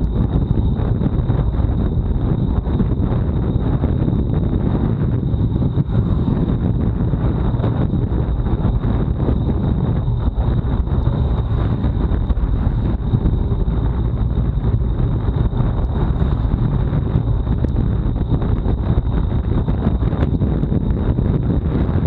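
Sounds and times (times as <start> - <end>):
thin high whine: 0.0 - 22.0
wind buffeting microphone: 0.0 - 22.0.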